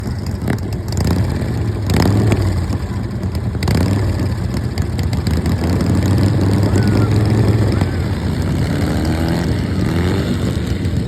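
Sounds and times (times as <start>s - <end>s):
racing engine droning: 0.0s - 11.0s.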